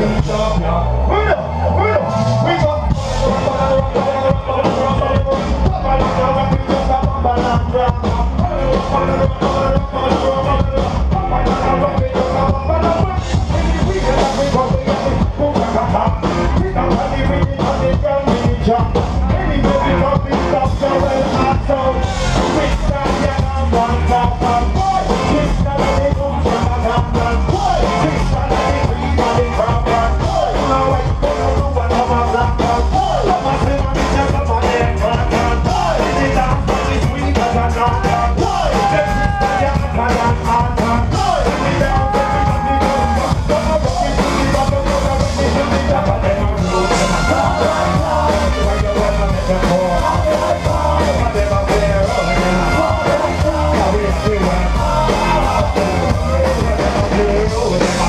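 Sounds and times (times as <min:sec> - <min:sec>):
live band playing ska music: 0:00.0 - 0:58.0.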